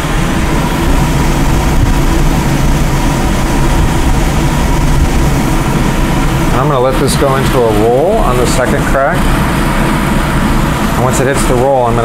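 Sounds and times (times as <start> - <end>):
coffee roaster blower hum: 0.0 - 12.0.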